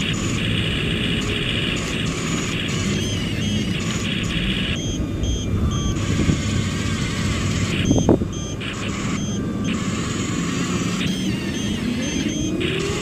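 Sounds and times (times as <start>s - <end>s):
sharp whine: 0.0s - 13.0s
short high beeps: 0.0s - 13.0s
toy bulldozer motor hum: 0.0s - 13.0s.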